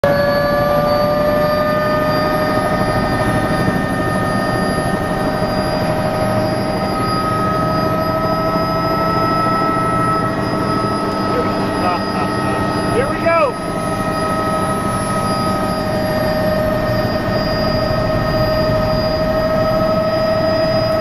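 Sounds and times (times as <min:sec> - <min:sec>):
helicopter engine and rotor: 0:00.0 - 0:21.0
high whine: 0:00.0 - 0:21.0.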